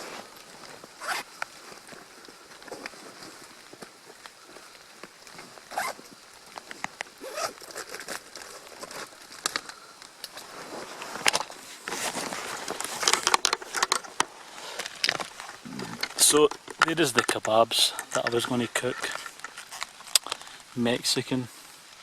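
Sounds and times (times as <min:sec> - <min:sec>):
gear clicking and rustling: 0:00.0 - 0:20.7
rain hissing: 0:00.0 - 0:22.0.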